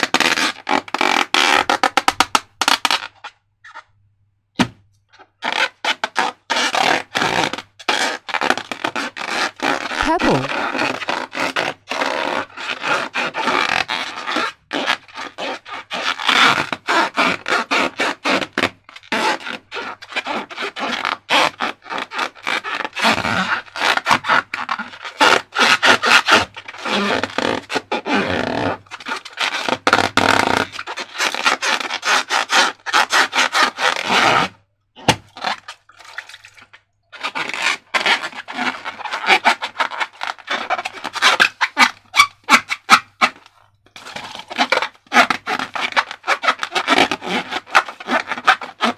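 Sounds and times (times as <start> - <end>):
slime crackling and scraping: 5.5 - 48.9.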